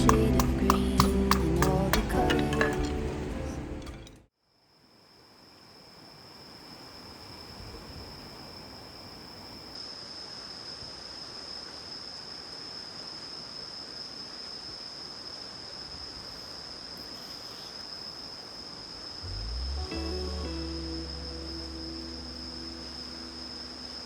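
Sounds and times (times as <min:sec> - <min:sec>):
crickets chirring: 0:04.4 - 0:24.0
soft background hiss: 0:04.5 - 0:24.0.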